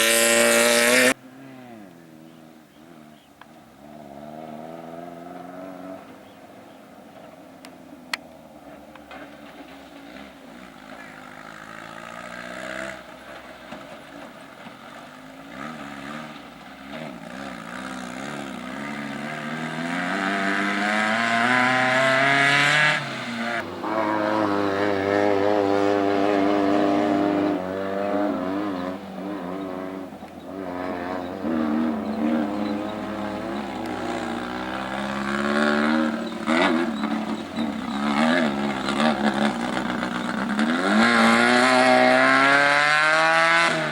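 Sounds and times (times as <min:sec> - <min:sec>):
off-road vehicle engine revving: 0:00.0 - 0:06.4, 0:08.1 - 0:43.9.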